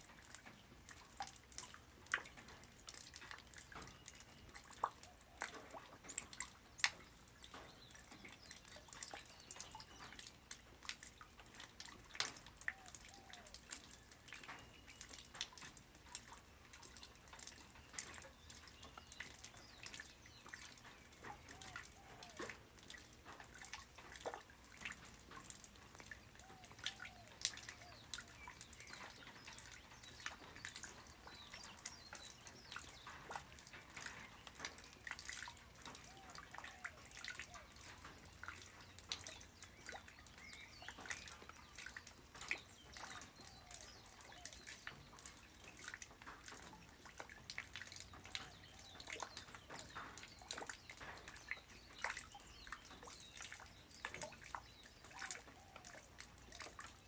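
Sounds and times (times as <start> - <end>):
light rain drops plinking: 0.0 - 57.0.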